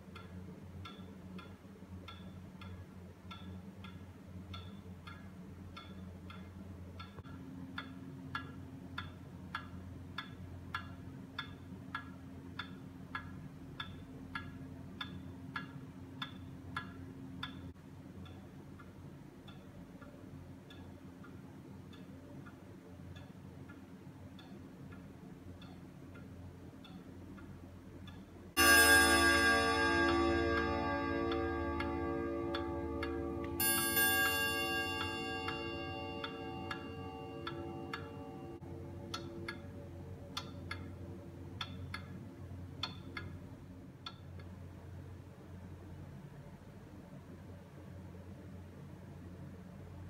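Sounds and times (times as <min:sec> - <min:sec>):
wall clock ticking: 0:00.0 - 0:47.8
faint low hum: 0:00.0 - 0:50.0.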